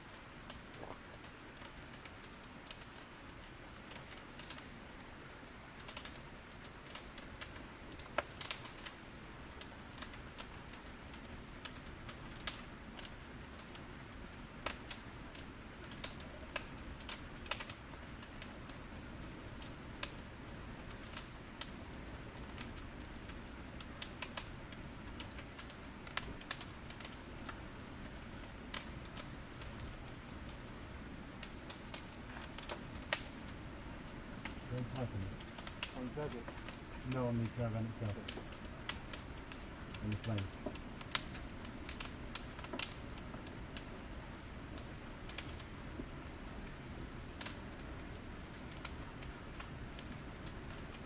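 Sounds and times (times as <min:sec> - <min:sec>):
firewood crackling and popping: 0:00.0 - 0:51.0
low hiss of fire: 0:00.0 - 0:51.0.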